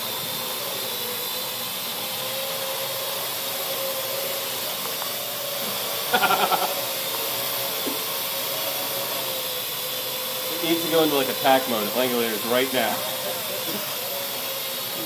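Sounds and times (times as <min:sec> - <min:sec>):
quadcopter rotors whirring: 0:00.0 - 0:15.0.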